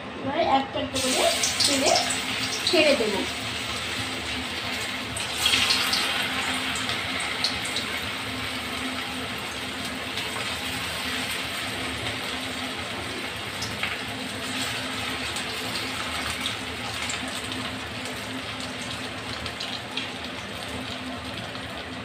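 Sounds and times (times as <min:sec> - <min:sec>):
food deep-frying in oil: 0:00.9 - 0:22.0.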